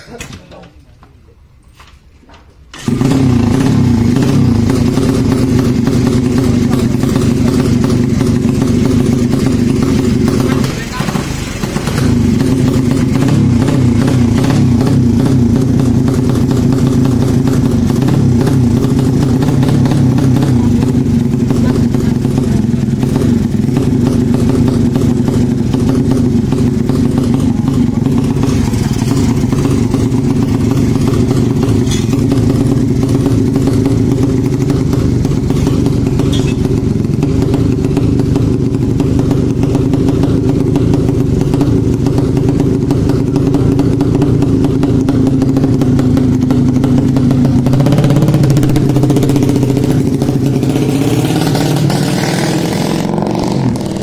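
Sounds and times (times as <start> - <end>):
motorcycle engine running: 2.8 - 54.0.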